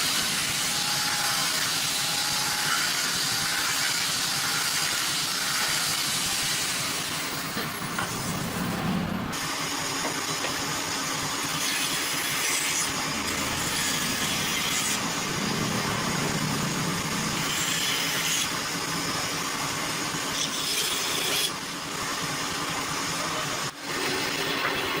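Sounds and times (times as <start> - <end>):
woodworking machinery running: 0.0 - 25.0.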